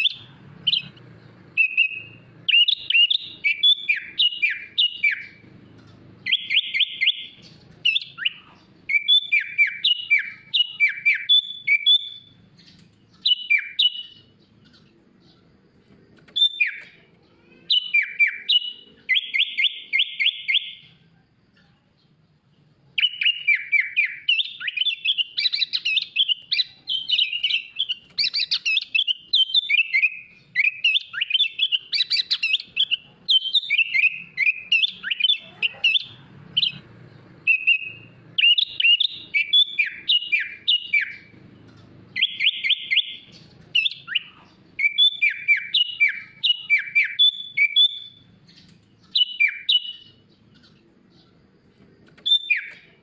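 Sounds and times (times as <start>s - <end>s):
bulbul singing: 0.0s - 53.0s.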